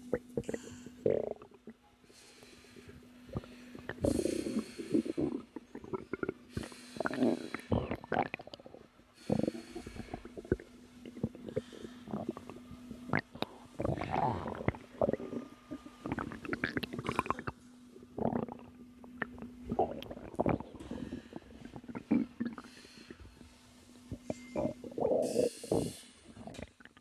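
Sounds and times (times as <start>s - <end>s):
stomach growling and gurgling: 0.0s - 1.8s, 3.3s - 23.5s, 24.1s - 27.0s.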